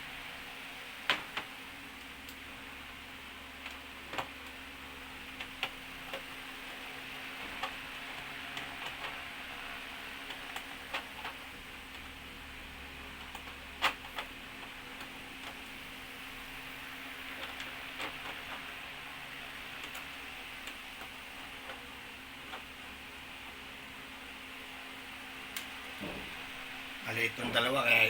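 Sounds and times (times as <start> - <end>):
steady faint hiss: 0.0 - 28.0.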